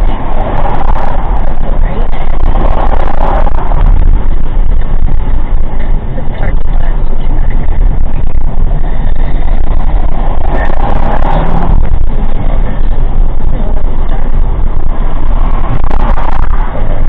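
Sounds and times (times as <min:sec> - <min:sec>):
motor vehicle rumbling: 0:00.0 - 0:17.0.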